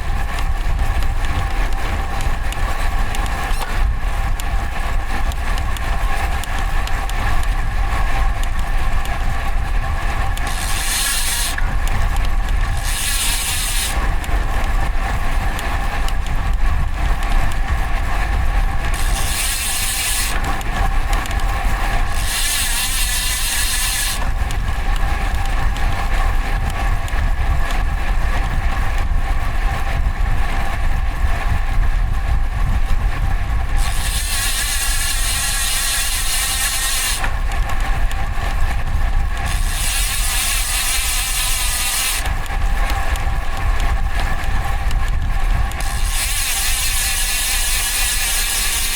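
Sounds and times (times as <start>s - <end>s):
road noise: 0.0s - 48.9s
wind rumble on microphone: 0.0s - 48.9s.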